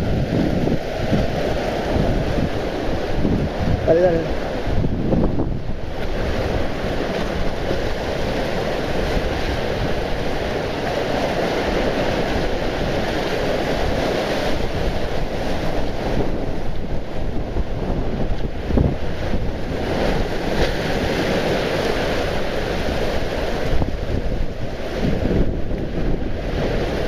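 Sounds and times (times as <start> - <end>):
small waves washing over rocks: 0.0 - 27.0
wind buffeting microphone: 0.0 - 27.0.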